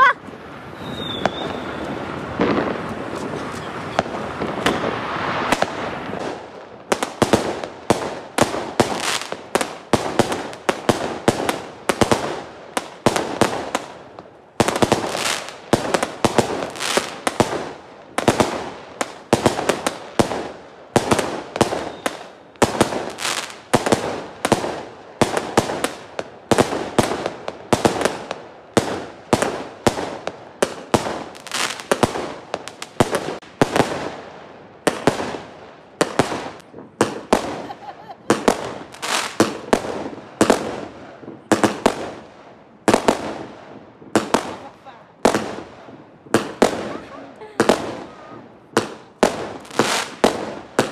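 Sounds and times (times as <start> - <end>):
fireworks bangs and pops: 0.0 - 50.9.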